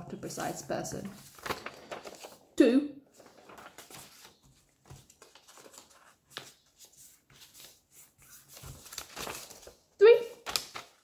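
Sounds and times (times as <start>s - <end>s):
paper rustling and crinkling: 0.9s - 2.5s, 3.1s - 11.0s.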